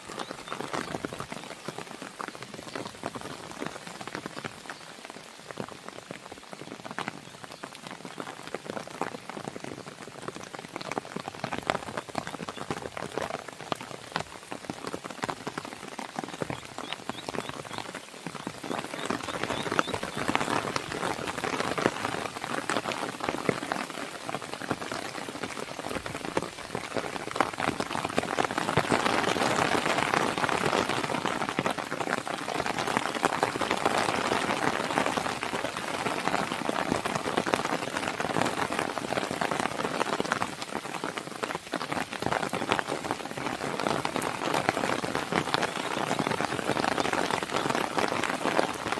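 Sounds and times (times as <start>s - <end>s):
rain on a window: 0.0s - 48.9s.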